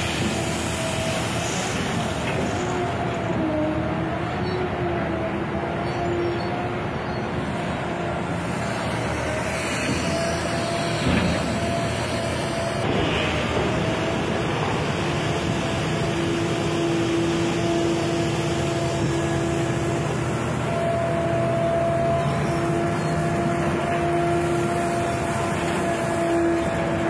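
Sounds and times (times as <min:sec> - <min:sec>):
excavator engine and hydraulics: 0:00.0 - 0:27.0.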